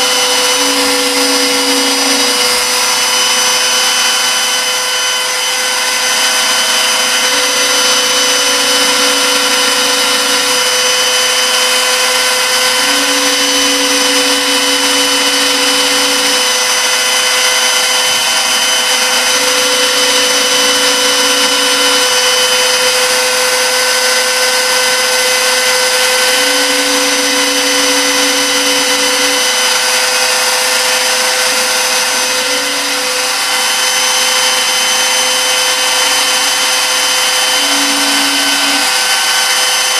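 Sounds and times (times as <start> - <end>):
low hum stepping pitch: 0.0 - 4.0, 6.7 - 23.2, 25.6 - 39.4
milling machine spindle whine: 0.0 - 39.9.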